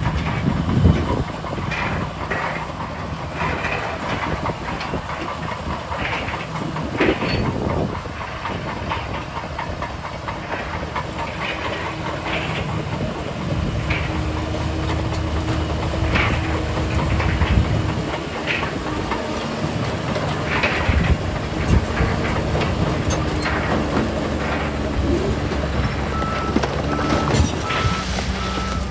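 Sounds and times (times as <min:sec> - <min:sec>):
heavy machinery diesel rumble: 0:00.0 - 0:28.9
metallic clanking: 0:00.0 - 0:28.9
steady engine whine: 0:00.0 - 0:28.9.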